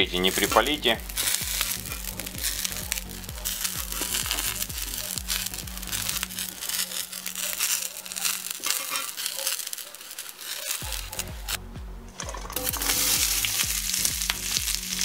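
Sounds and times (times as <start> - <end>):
eggplant sizzling in hot oil: 0.0 - 11.6, 12.2 - 15.0
background music: 0.0 - 15.0.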